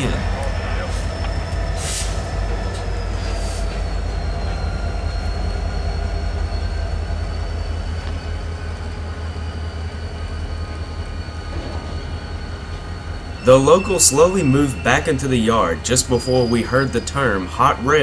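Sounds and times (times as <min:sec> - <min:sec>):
diesel locomotive low throb: 0:00.0 - 0:18.0
thin high whine: 0:00.0 - 0:18.0.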